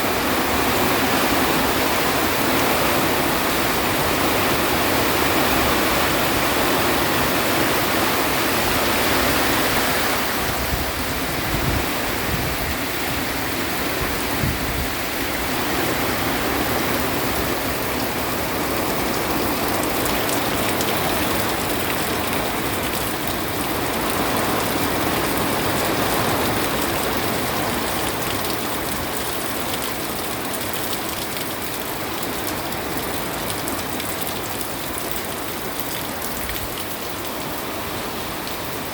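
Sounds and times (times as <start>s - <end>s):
heavy rain rushing: 0.0s - 38.9s.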